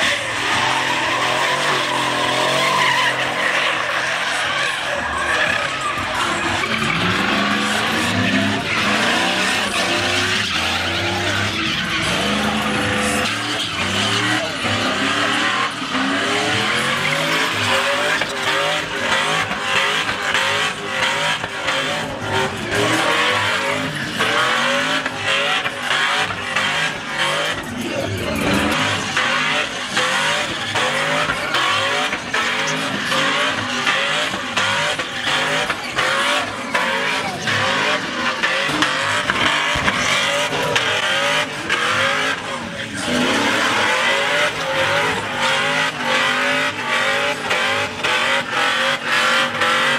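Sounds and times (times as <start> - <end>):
engine revving: 0.0 - 49.9
tyres screeching: 0.0 - 49.9.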